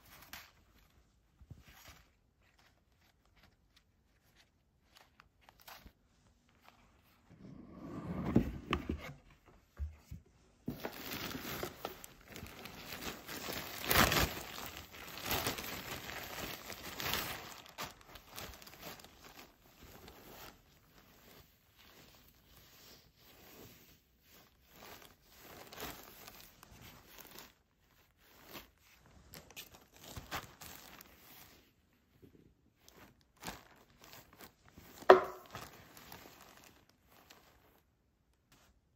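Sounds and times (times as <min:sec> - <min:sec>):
tissue paper crinkling and rustling: 0:00.0 - 0:07.3, 0:10.6 - 0:38.9.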